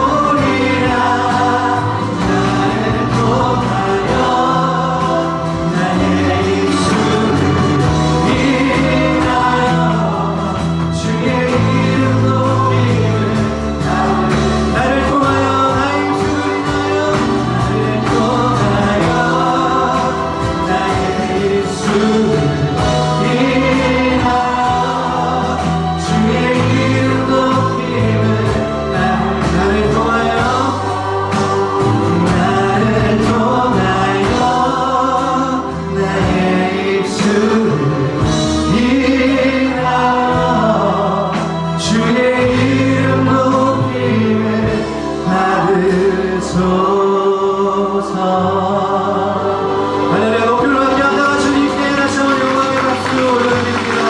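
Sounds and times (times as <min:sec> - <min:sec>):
group singing praise song: 0:00.0 - 0:54.0
instrumental backing with bass: 0:00.0 - 0:54.0.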